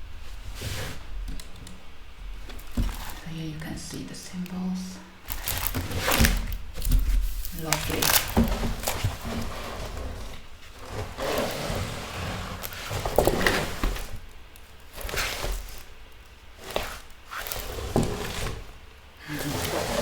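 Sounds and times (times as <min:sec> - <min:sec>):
canvas rustling and handling: 0:00.0 - 0:03.4, 0:05.2 - 0:20.0.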